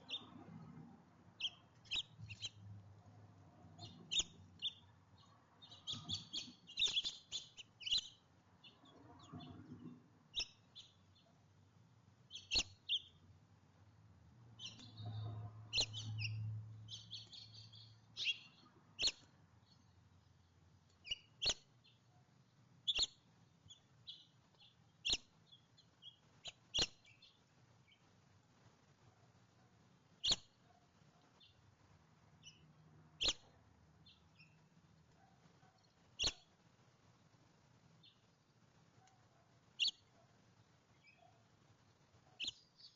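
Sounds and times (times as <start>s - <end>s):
small songbirds chirping: 0.0s - 42.9s.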